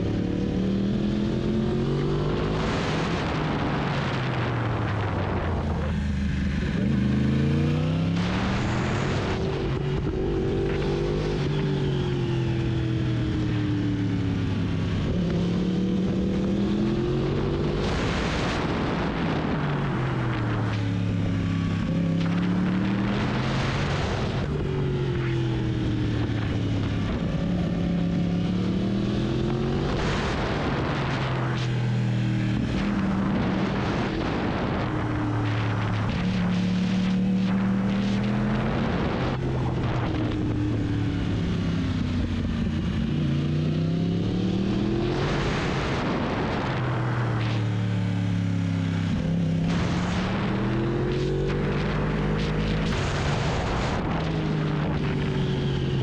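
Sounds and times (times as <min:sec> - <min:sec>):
motorcycle engine revving: 0:00.0 - 0:56.0
wind noise on microphone: 0:02.4 - 0:10.5, 0:11.8 - 0:56.0.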